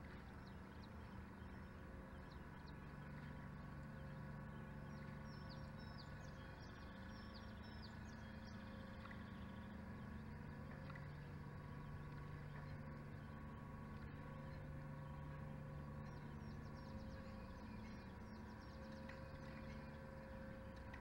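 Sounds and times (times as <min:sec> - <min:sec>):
faint low tonal drone: 0:00.0 - 0:21.0.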